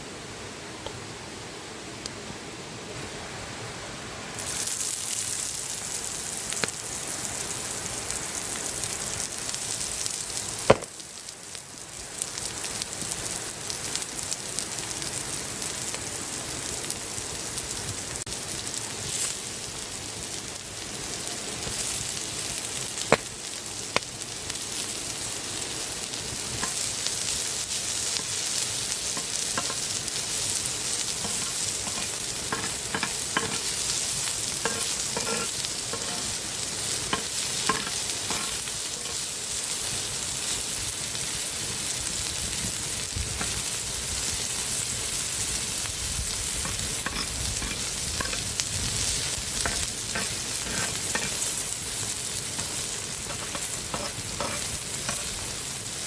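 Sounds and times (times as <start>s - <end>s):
food sizzling on hot stone: 0.6s - 56.0s.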